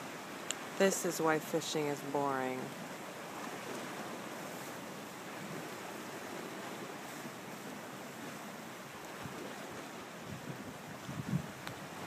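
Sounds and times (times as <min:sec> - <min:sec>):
small waves on rocky shore: 0:00.0 - 0:12.0
wind: 0:00.0 - 0:12.0.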